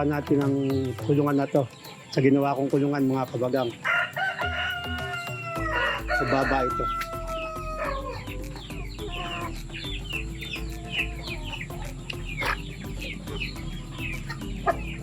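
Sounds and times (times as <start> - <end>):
chickens clucking: 0.0 - 15.0
high chirping calls: 0.0 - 15.0.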